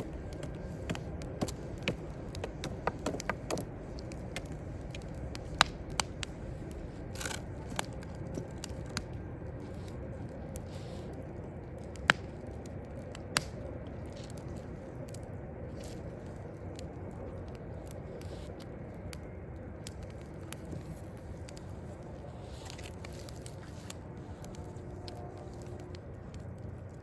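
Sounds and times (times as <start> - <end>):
distant city rumble: 0.0 - 27.0
log fire crackling: 0.0 - 27.0.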